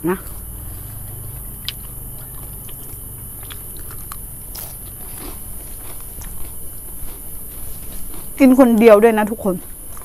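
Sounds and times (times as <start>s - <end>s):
low hum: 0.0s - 8.4s
chewing crispy food: 0.1s - 10.0s.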